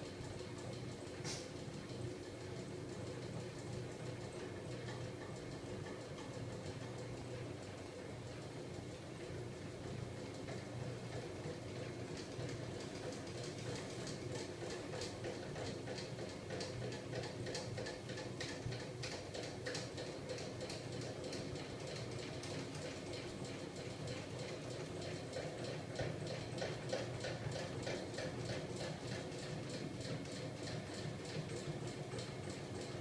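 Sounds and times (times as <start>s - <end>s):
rapid regular ticking of linkage: 0.1s - 8.9s, 9.8s - 33.0s.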